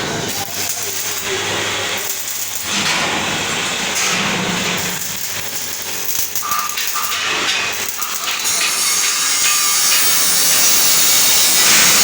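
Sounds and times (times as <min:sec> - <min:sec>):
arc welding hiss: 0:00.0 - 0:12.0.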